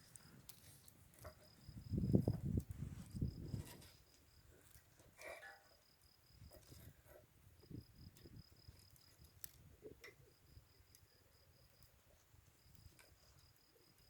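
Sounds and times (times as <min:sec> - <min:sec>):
campfire crackling pops: 0:00.0 - 0:14.0.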